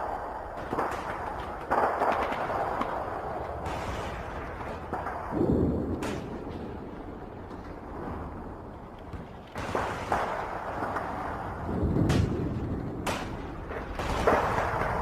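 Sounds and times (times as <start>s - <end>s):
explosion rumble with blasts: 0.0s - 15.0s.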